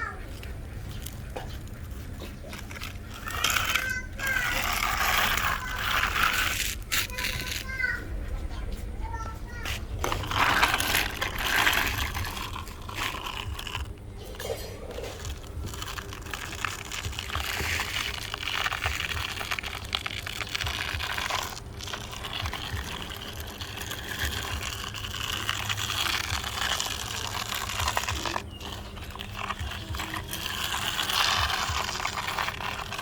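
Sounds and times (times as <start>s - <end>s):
steady low hum: 0.0s - 33.0s
sand crunching and scraping: 1.0s - 33.0s.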